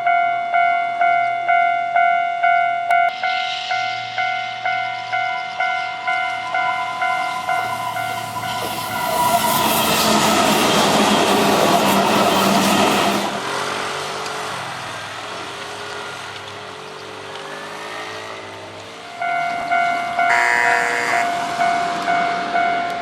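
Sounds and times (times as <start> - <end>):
crossing warning bell dinging: 0.0 - 13.9, 18.4 - 23.0
train passing: 0.0 - 23.0.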